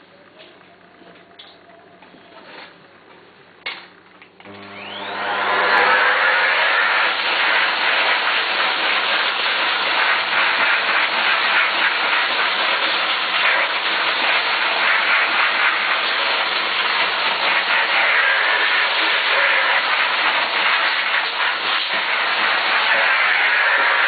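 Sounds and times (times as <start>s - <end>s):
vacuum cleaner running: 4.4s - 24.0s.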